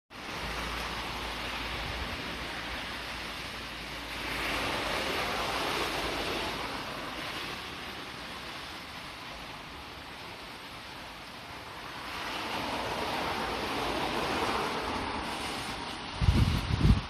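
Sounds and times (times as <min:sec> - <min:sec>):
heavy rain hissing: 0:00.2 - 0:17.0.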